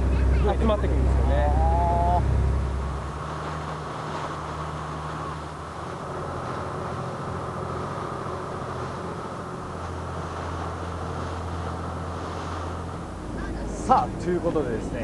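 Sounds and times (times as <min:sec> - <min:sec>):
boat engine humming: 0:00.0 - 0:15.0
wind and water rushing: 0:00.0 - 0:15.0.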